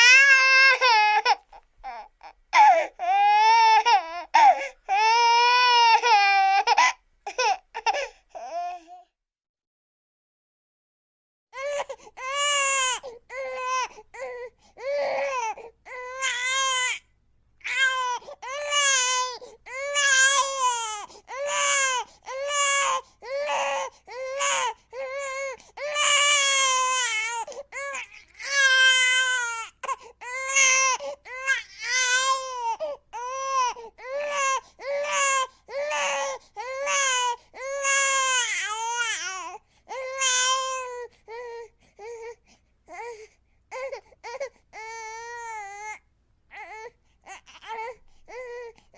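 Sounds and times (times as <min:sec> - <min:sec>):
infant crying: 0:00.0 - 0:09.1, 0:11.6 - 0:48.9.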